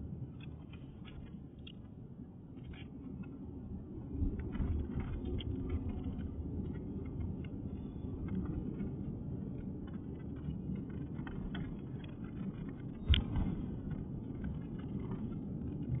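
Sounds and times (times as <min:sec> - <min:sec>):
car driving low rumble: 0:00.0 - 0:16.0.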